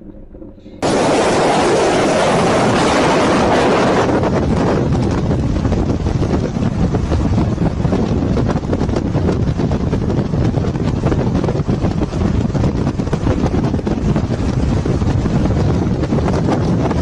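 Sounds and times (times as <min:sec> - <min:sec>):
wind buffeting microphone: 0:00.0 - 0:17.0
road and engine rumble: 0:02.3 - 0:17.0.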